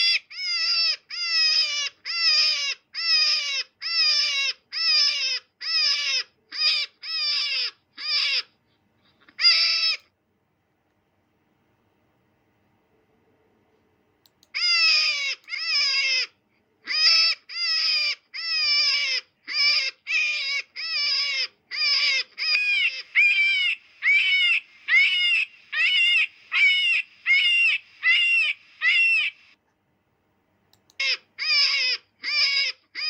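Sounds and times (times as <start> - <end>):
animal calling: 0.0 - 10.1, 14.5 - 29.6, 30.9 - 33.0.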